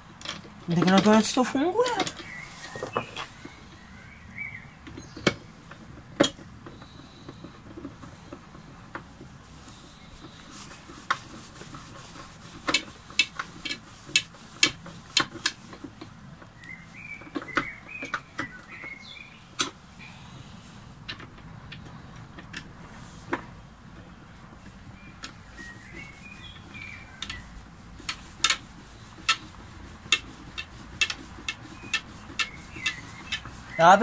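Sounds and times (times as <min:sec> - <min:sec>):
sharp clicks and knocks: 0:00.0 - 0:03.8, 0:04.8 - 0:19.9, 0:21.0 - 0:34.0.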